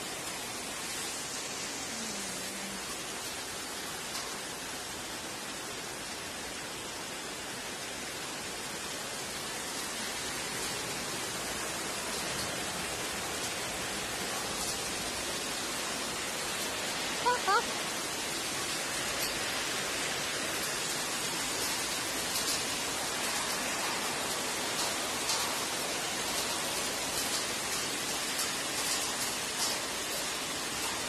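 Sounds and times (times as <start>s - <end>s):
rain pouring onto concrete: 0.0s - 31.0s.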